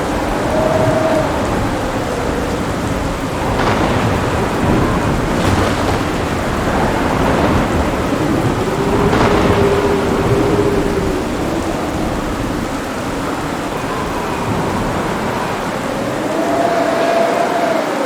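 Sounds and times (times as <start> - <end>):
heavy rain: 0.0 - 18.0
rolling thunder: 0.0 - 18.0
sharp thunder cracks: 1.1 - 16.0.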